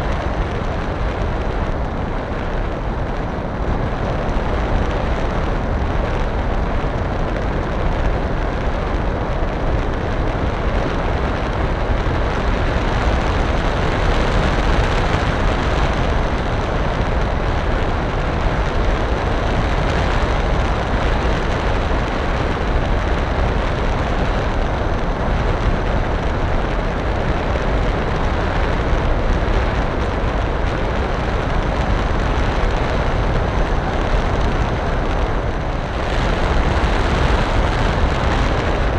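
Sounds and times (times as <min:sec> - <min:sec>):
airflow and motor rushing: 0:00.0 - 0:38.9.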